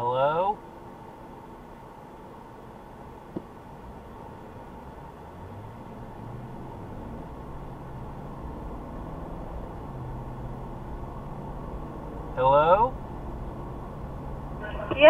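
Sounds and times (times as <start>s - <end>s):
low engine hum: 0.0s - 15.0s
road noise inside car: 0.0s - 15.0s.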